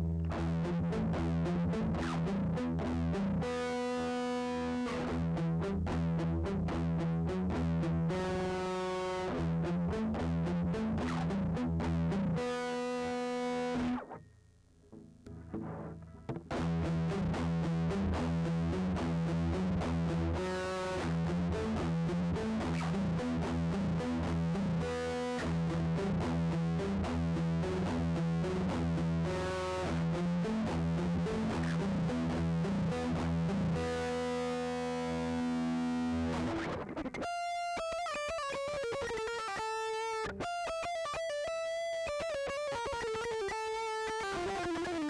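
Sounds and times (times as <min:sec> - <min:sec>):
distorted electric guitar riff: 0:00.0 - 0:45.0.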